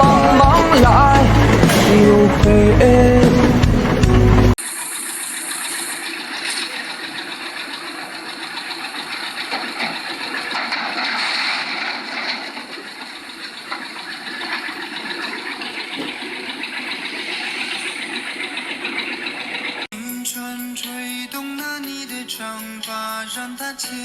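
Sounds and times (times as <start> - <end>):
harvester engine and machinery: 0.0 - 24.0.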